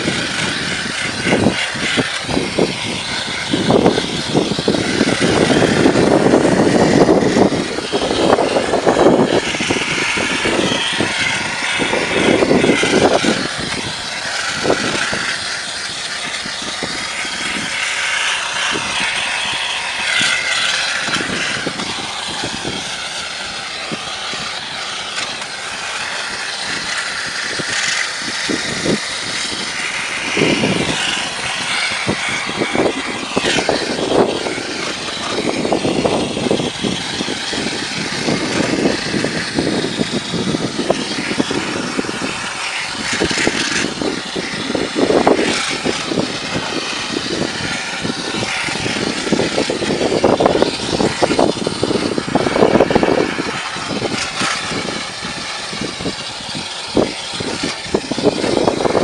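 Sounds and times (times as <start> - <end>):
cleaning machine noise with hiss: 0.0 - 59.0.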